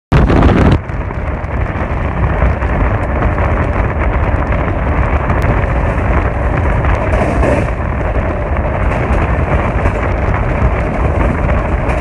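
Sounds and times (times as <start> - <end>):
wind buffeting microphone: 0.1 - 12.0
train wheels rumbling on track: 0.2 - 12.0.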